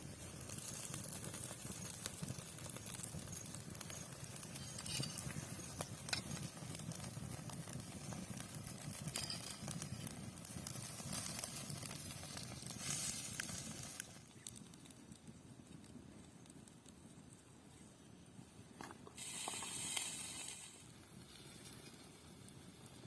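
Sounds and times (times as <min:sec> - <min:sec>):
food sizzling over open fire: 0:00.0 - 0:17.9, 0:18.8 - 0:23.0.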